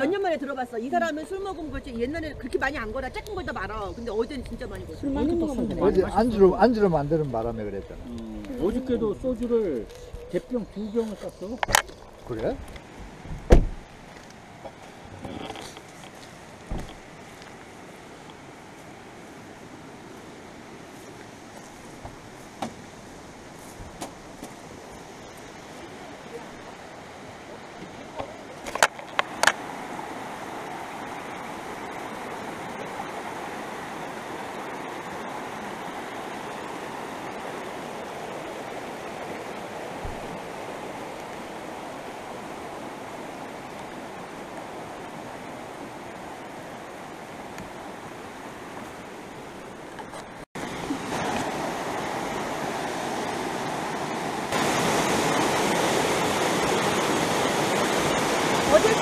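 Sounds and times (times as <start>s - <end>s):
creek water rushing over rocks: 0.0s - 59.0s.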